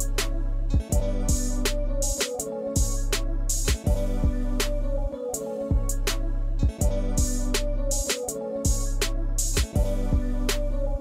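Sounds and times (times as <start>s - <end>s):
instrumental music with drum beat: 0.0s - 11.0s.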